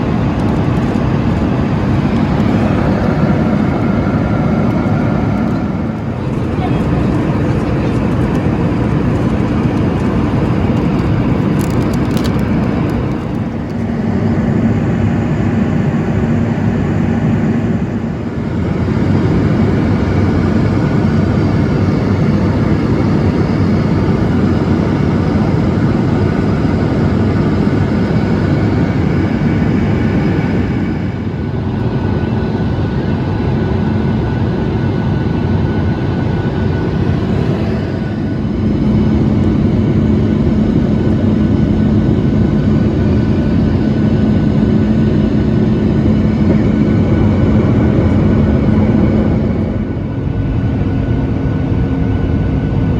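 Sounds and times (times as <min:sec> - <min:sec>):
jet engine and airflow in cabin: 0:00.0 - 0:52.9.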